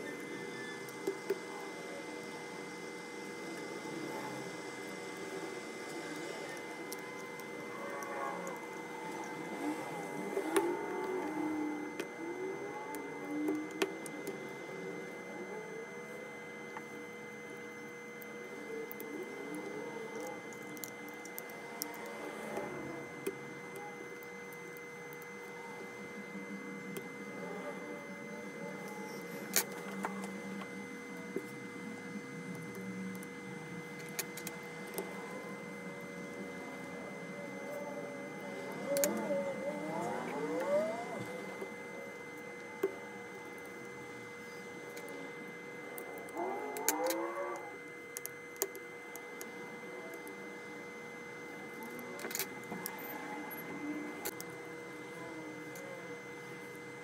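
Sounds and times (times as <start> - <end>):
background hum: 0.0 - 57.0
thin constant tone: 0.0 - 57.0.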